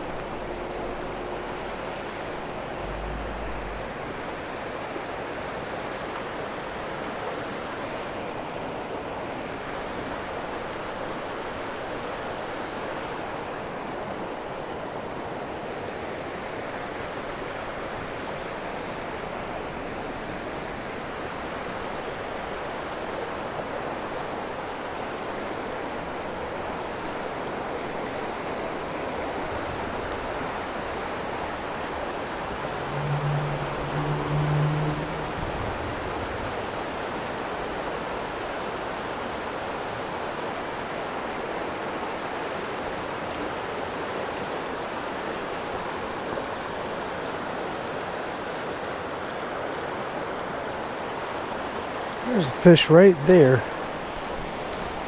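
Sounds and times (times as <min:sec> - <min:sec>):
creek rushing over rocks: 0:00.0 - 0:55.0.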